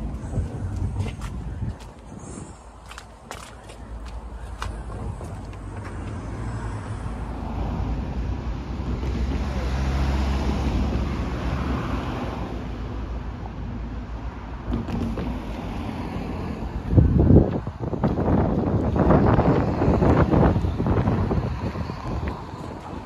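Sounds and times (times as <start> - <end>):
wind rumbling on microphone: 0.0 - 13.8, 14.4 - 23.0.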